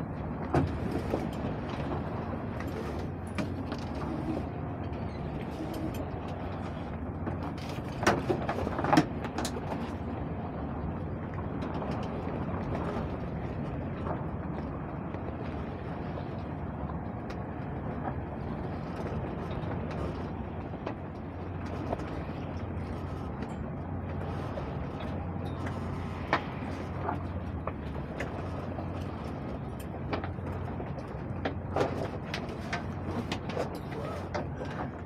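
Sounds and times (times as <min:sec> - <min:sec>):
rushing wind and water: 0:00.0 - 0:35.0.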